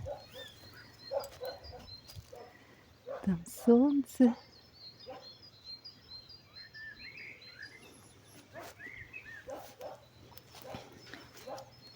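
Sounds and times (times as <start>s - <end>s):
songbirds singing: 0.0s - 11.9s.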